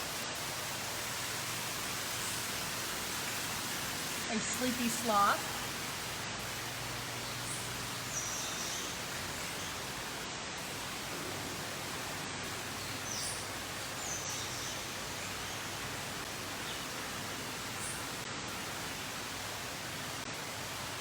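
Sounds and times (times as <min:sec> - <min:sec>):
ambient hiss: 0:00.0 - 0:21.0.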